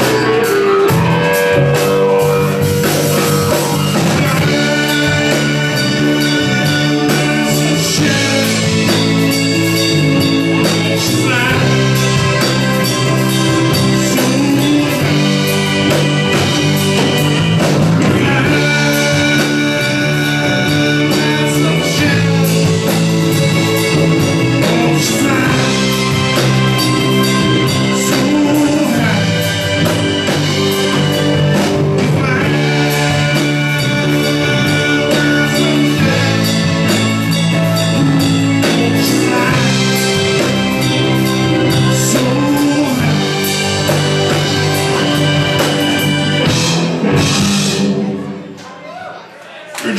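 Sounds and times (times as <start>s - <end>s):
person singing: 0.0s - 48.4s
electric guitar: 0.0s - 48.6s
drum kit: 0.0s - 48.7s
live rock band playing: 0.0s - 48.8s.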